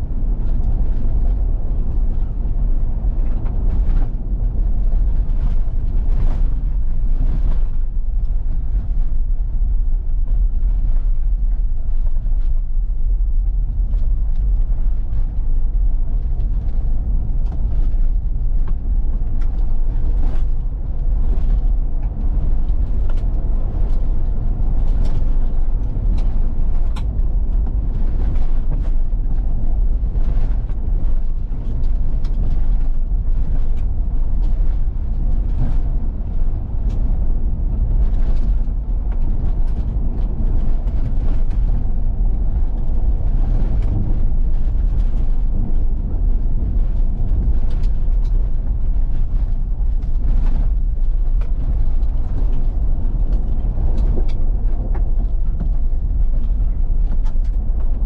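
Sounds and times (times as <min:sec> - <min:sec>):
tyre and drivetrain rumble: 0:00.0 - 0:58.0.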